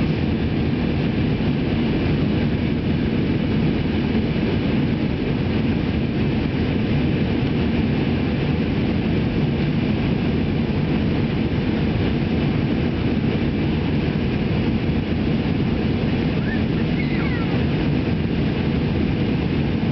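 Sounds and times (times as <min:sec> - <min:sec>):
jet airliner cabin noise: 0:00.0 - 0:19.9.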